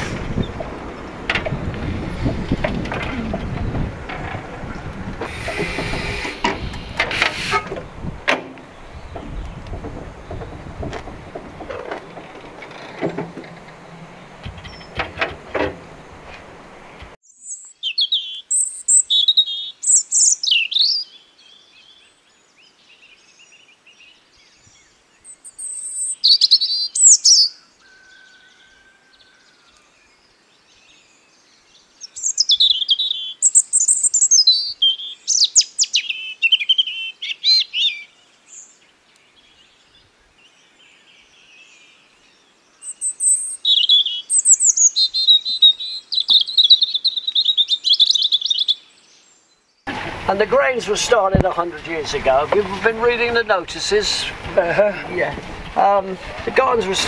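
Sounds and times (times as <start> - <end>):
songbird warbling and trilling: 0.2 - 49.8.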